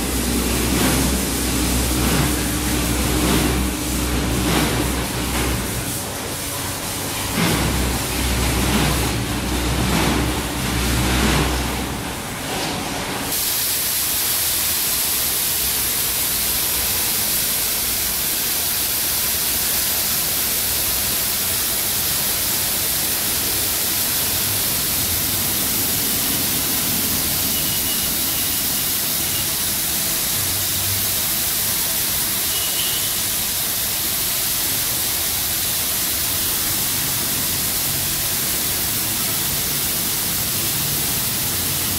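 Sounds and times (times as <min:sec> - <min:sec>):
water spray hissing: 0:00.0 - 0:10.2, 0:13.3 - 0:41.9
car wash machine humming: 0:00.0 - 0:41.9.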